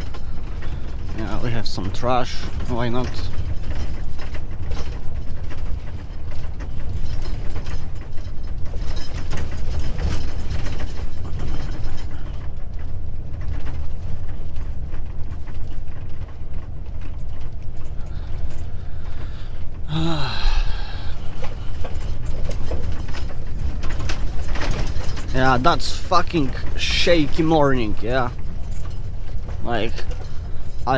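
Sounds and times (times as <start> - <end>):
engine and tyres rumbling: 0.0 - 30.9
truck cab rattling and creaking: 0.0 - 30.9.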